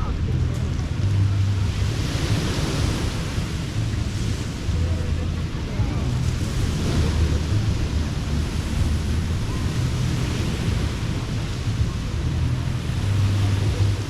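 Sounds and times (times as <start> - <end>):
surf washing onto beach: 0.0 - 14.0
wind rumble on microphone: 0.0 - 14.0.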